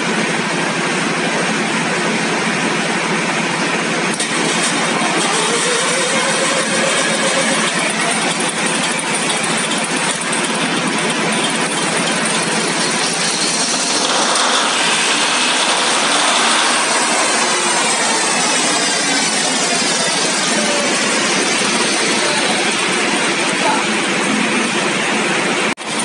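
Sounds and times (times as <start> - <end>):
diesel engine running loudly: 0.0 - 26.0.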